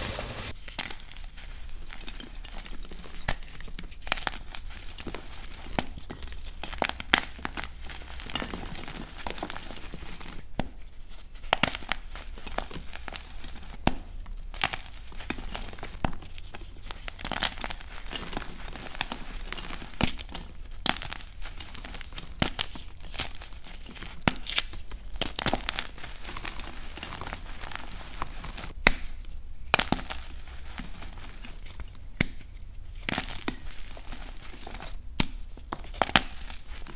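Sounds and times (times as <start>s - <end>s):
chalk blocks crunching and snapping: 0.0s - 36.9s.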